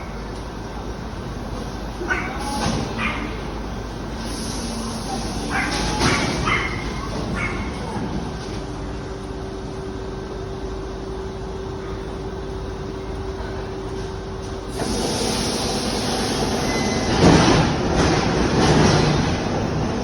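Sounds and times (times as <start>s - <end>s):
electric train hum and rumble: 0.0s - 20.0s
train passing through: 0.0s - 20.0s.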